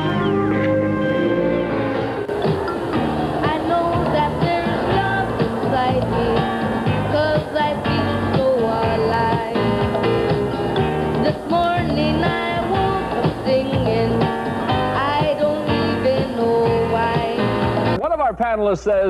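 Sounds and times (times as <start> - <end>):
band music with guitar: 0.0 - 18.0.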